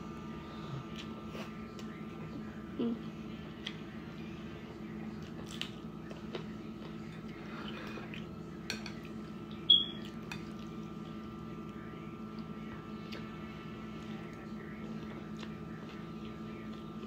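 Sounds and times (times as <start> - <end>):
steady hum: 0.0 - 17.0
soft chewing: 0.6 - 17.0.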